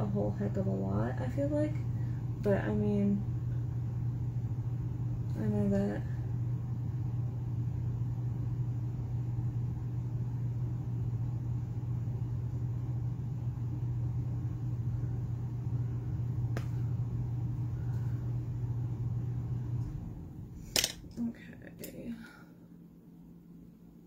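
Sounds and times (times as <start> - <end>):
low-pitched hum: 0.0 - 24.0.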